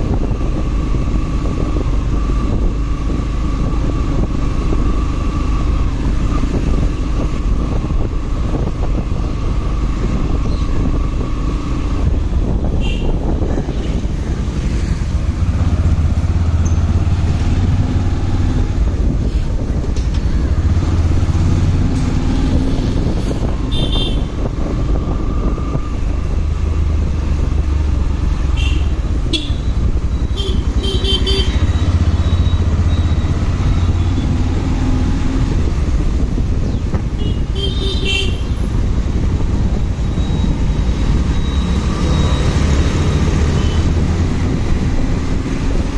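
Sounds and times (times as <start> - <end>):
motorcycle engine rumble: 0.0 - 45.9
road noise: 0.0 - 45.9.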